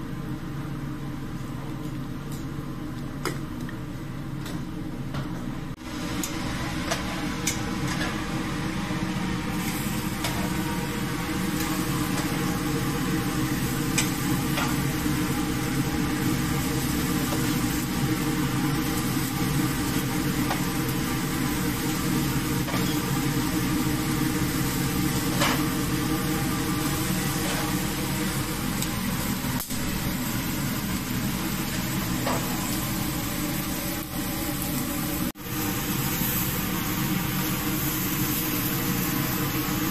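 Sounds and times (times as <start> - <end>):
steaks sizzling on grill: 5.8 - 39.9.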